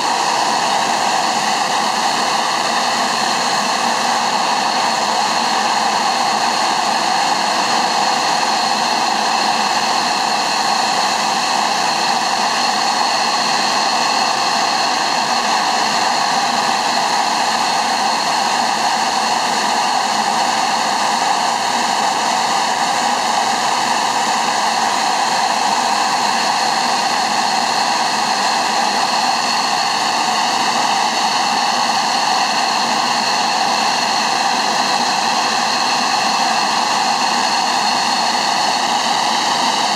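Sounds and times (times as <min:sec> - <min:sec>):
jet engine idling: 0:00.0 - 0:39.9.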